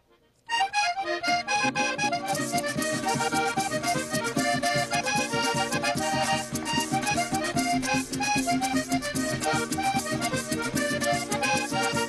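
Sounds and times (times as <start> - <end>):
accordion dance tune: 0.0 - 12.0
bright percussion: 1.8 - 12.0.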